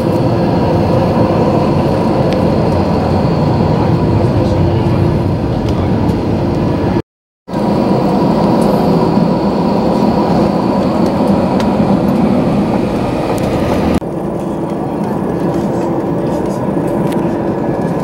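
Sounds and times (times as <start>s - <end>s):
jet engine and wheel rumble: 0.0s - 18.0s.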